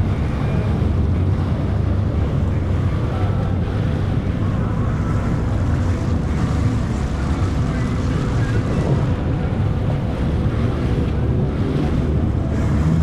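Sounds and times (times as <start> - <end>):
jet ski engine drone: 0.0 - 13.0
water rushing: 0.0 - 13.0
wind buffeting microphone: 0.0 - 13.0.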